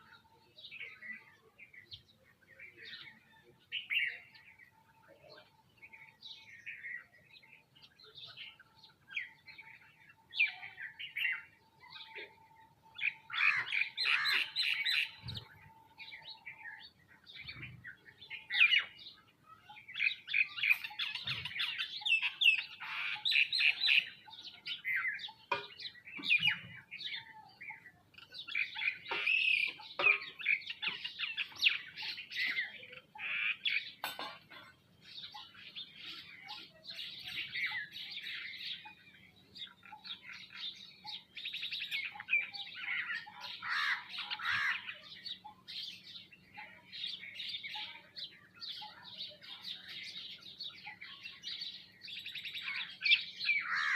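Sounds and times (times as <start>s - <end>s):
small birds chirping and squawking: 0.0s - 53.9s.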